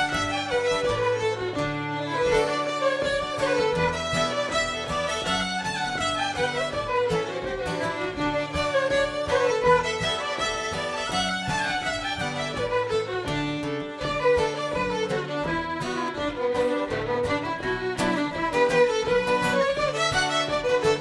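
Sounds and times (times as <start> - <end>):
fiddles playing: 0.0 - 21.0
guitar chords: 0.0 - 21.0.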